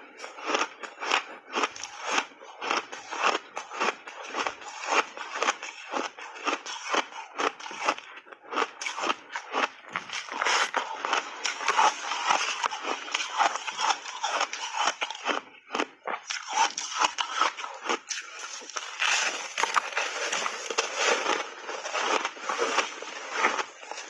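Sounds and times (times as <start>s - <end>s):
ice being bitten and chewed: 0.0s - 24.0s.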